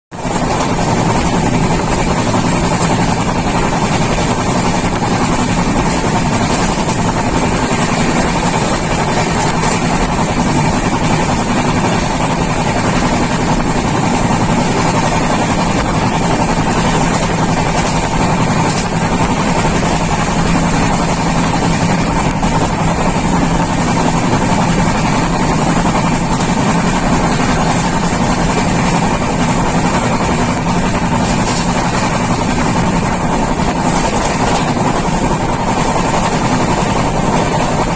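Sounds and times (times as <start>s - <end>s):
train rumbling at speed: 0.1s - 37.9s.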